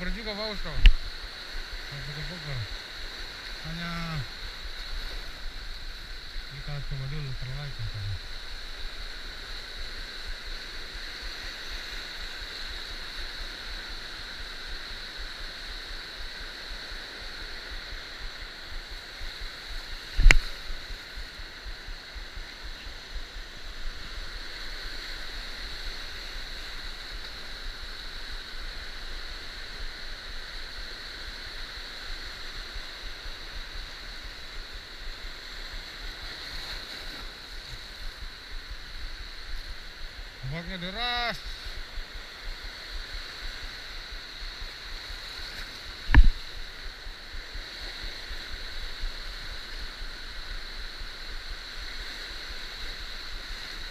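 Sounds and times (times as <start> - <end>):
surf washing over reef: 0.0 - 53.9.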